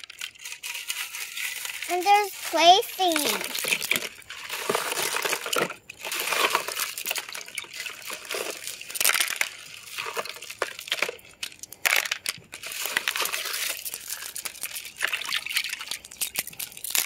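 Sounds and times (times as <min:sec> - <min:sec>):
stones clicking in plastic colander: 0:03.2 - 0:17.0.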